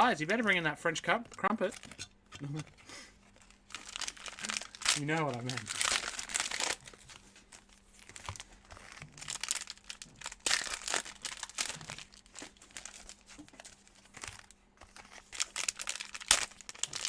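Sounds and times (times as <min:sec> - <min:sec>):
plastic wrappers crinkling and tearing: 0:00.0 - 0:02.6, 0:03.2 - 0:17.0.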